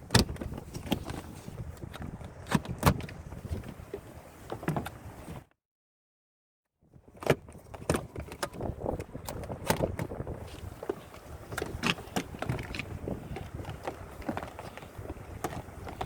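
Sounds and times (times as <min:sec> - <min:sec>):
canoe parts clicking and rattling: 0:00.0 - 0:05.1, 0:07.1 - 0:16.0.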